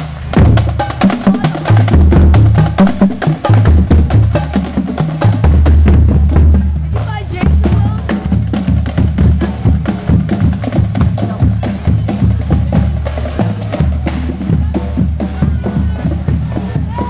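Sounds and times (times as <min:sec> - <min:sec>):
bass drum beats: 0:00.0 - 0:17.0.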